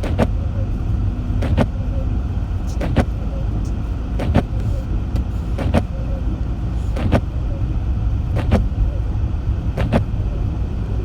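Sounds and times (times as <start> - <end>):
windshield wipers sweeping: 0.0 - 10.5
car driving low rumble: 0.0 - 11.0.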